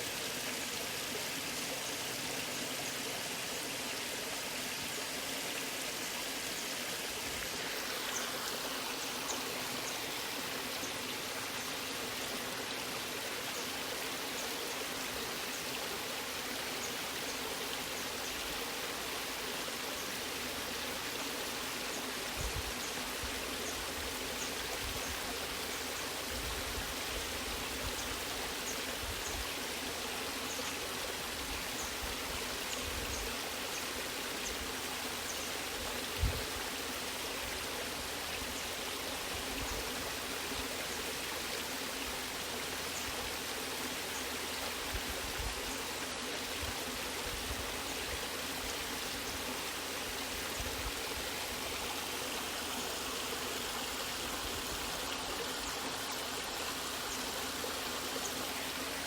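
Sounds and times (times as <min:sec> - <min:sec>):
waterfall rushing and splashing: 0:00.0 - 0:59.0.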